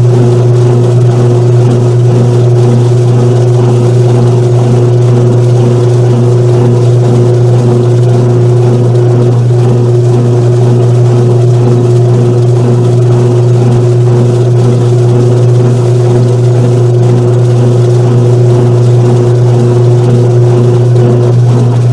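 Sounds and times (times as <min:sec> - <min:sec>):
drum pulsing: 0:00.0 - 0:21.9
washing machine motor hum: 0:00.0 - 0:21.9.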